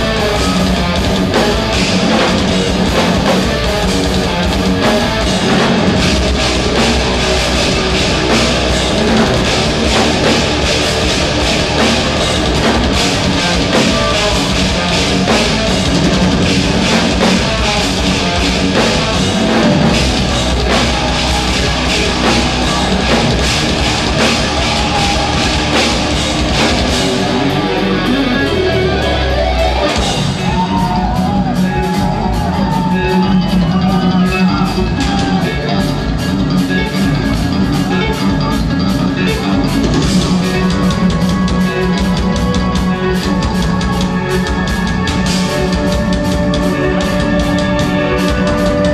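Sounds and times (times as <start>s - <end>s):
distorted electric guitars: 0.0s - 48.9s
drum kit: 0.0s - 48.9s
melodic guitar passage: 0.0s - 48.9s.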